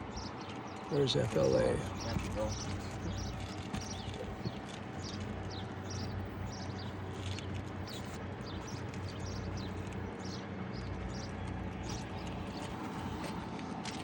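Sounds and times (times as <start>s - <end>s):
birds chirping: 0.0s - 14.0s
low engine hum: 0.0s - 14.0s.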